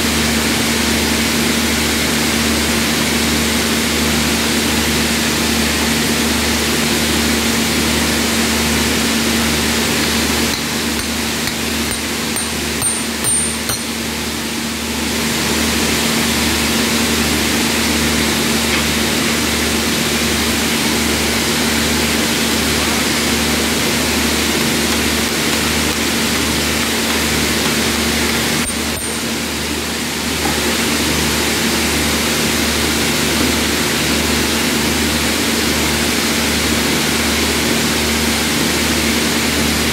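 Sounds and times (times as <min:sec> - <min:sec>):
heavy factory machinery droning: 0:00.0 - 0:39.9.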